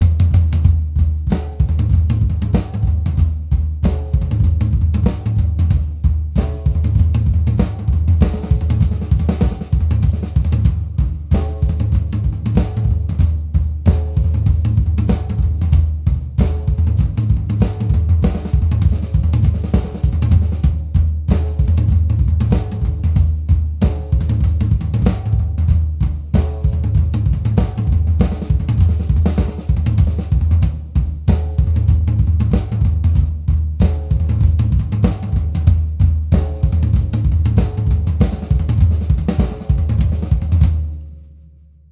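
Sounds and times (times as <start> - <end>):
drum kit playing rock beat: 0.0 - 41.0.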